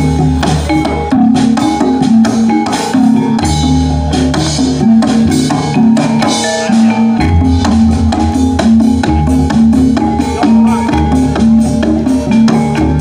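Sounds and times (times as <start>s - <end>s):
tuned metal mallet instruments: 0.0s - 13.0s.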